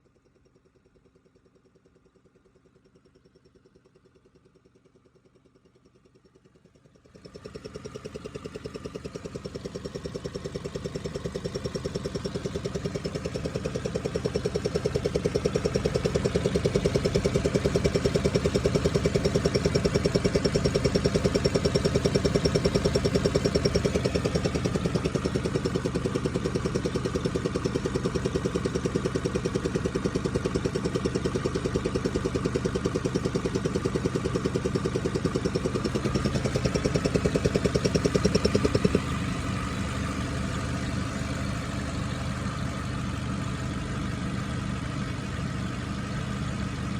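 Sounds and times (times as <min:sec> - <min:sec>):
car engine running: 0:06.1 - 0:46.9.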